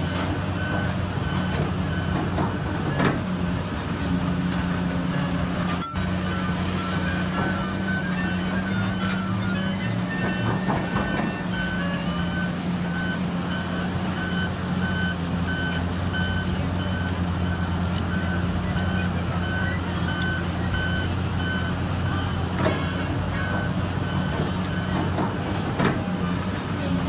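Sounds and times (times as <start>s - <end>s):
reversing alarm beeping: 0.0s - 26.6s
diesel engine running: 0.0s - 27.0s.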